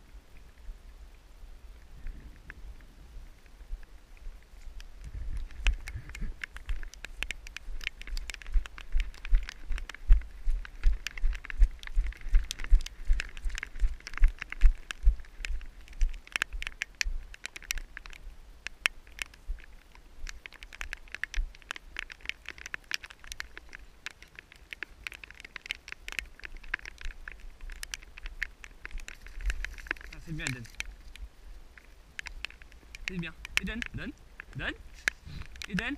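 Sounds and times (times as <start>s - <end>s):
rain on camera: 0.0s - 35.9s
footsteps on wet ground: 3.4s - 22.4s, 25.7s - 35.9s.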